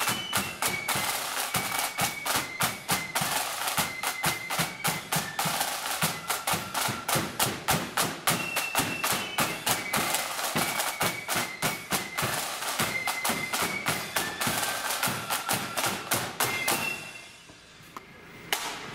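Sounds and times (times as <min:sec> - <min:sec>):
high flutes playing melody: 0:00.0 - 0:17.8
side drum strokes: 0:00.0 - 0:17.8.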